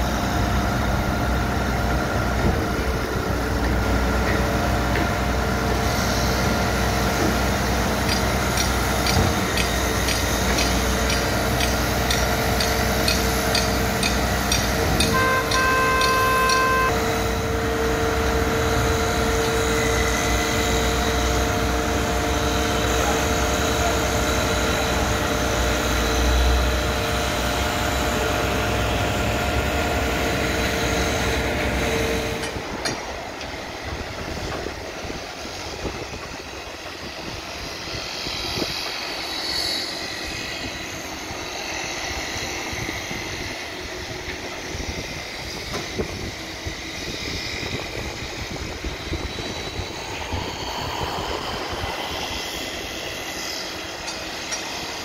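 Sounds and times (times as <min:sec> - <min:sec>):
truck engine running with whine: 0:00.0 - 0:55.0.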